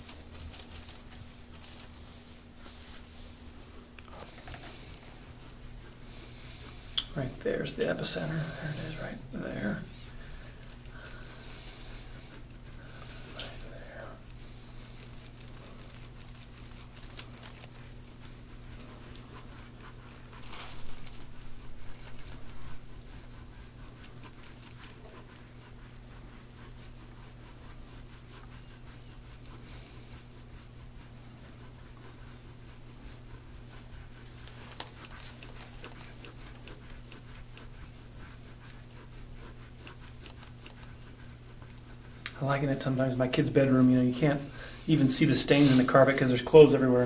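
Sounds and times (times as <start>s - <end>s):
steady low hum: 0.0s - 47.0s
tool scraping over oiled skin: 0.0s - 47.0s.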